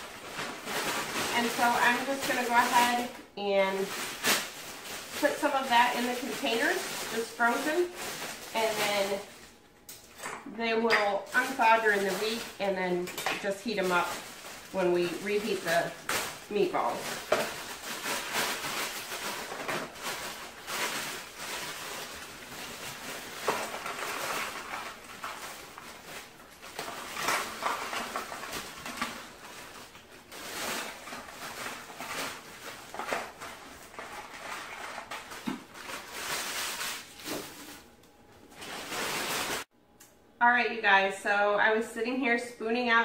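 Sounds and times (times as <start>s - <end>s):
plastic bag crinkling: 0.0s - 10.2s, 10.9s - 39.7s
frozen vegetables clattering into containers: 0.0s - 39.7s.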